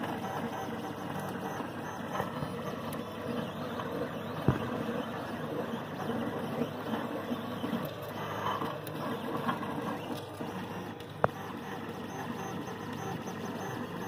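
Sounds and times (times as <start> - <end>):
printer stepper motors whirring: 0.0 - 14.0.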